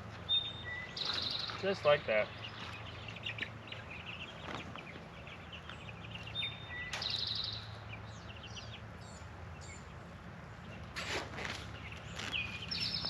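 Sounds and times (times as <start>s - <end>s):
low outdoor hum: 0.0s - 13.0s
songbirds chirping: 0.0s - 13.0s.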